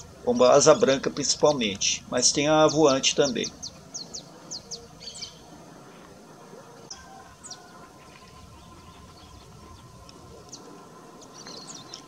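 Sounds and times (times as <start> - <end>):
bird chirping: 0.0 - 5.5, 6.6 - 12.0
open field background: 0.0 - 12.0.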